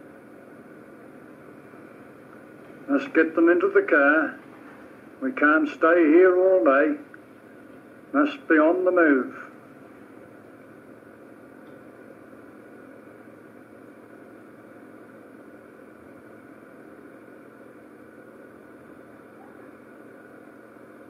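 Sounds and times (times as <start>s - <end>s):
machine hum with hiss: 0.0s - 21.0s.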